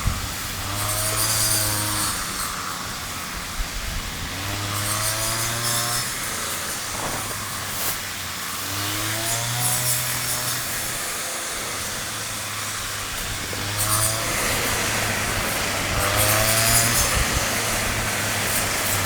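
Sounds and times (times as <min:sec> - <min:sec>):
threshing machine motor hum: 0:00.0 - 0:19.0.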